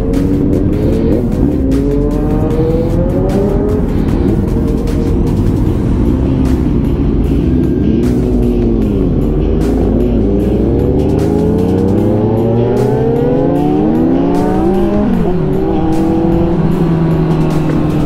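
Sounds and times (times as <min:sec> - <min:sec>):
motorcycles accelerating: 0:00.0 - 0:18.0.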